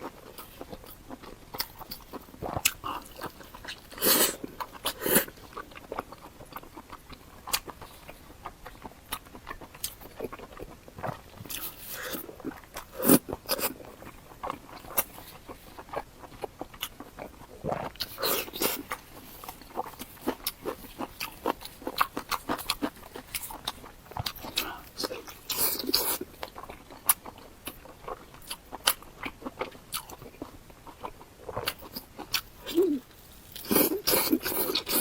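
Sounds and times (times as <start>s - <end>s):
person biting and chewing food: 0.0s - 35.0s.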